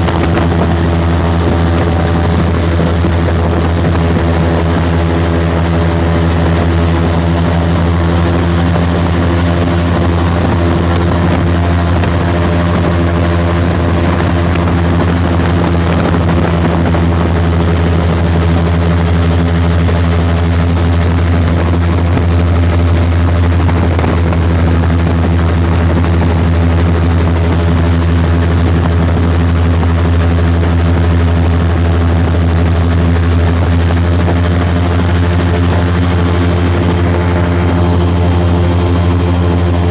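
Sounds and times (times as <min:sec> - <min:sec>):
airboat engine and propeller drone: 0:00.0 - 0:39.9.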